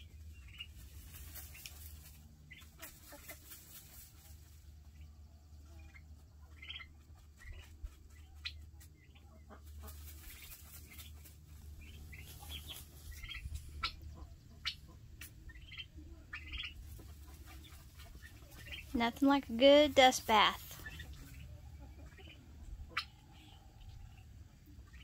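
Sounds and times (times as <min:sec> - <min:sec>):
baby turkeys peeping: 0:00.0 - 0:25.0.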